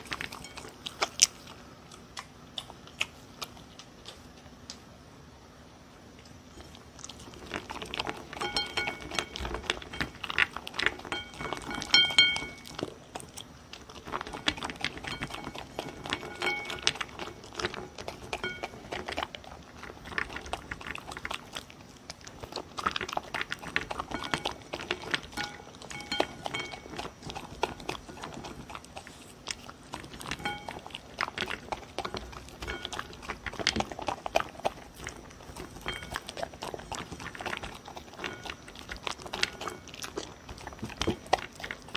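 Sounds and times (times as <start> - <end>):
dog crunching dry food: 0.0 - 4.8, 6.2 - 41.9.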